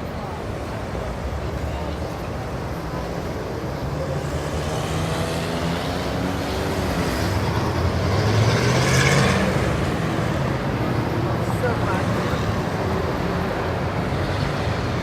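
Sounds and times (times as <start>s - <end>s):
street traffic engines: 0.0s - 15.0s.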